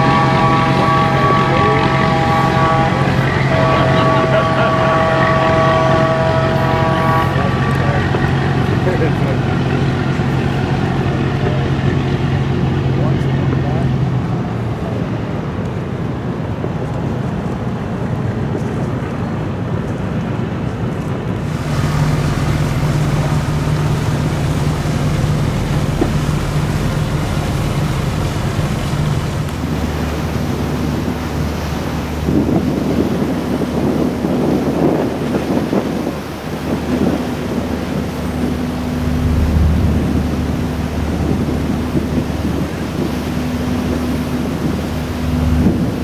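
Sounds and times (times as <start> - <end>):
ship engine drone: 0.0 - 46.0
water rushing past hull: 0.0 - 46.0
wind buffeting microphone: 0.0 - 46.0.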